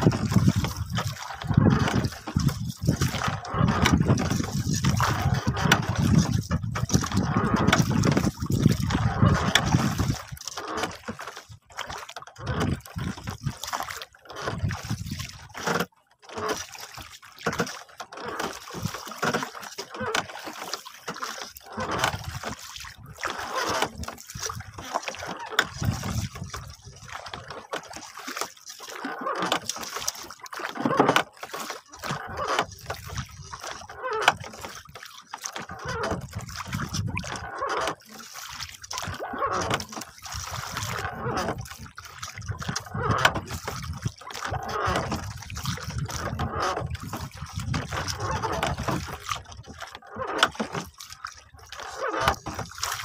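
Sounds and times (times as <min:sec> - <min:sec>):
sea water splashing along boat: 0:00.0 - 0:53.0.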